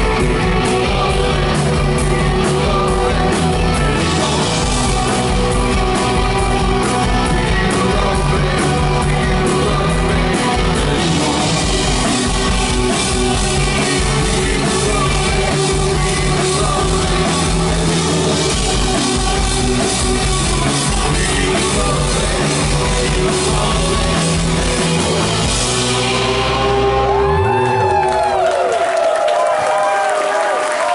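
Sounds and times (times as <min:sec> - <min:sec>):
rock band playing: 0:00.0 - 0:28.8.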